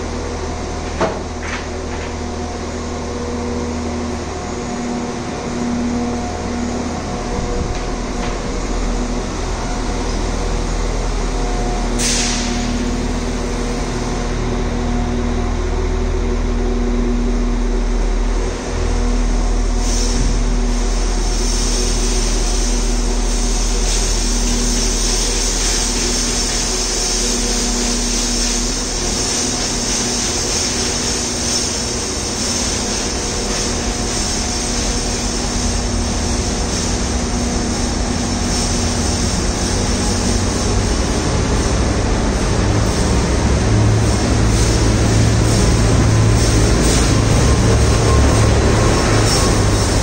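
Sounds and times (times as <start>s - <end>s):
train mechanical hum: 0.0s - 50.0s.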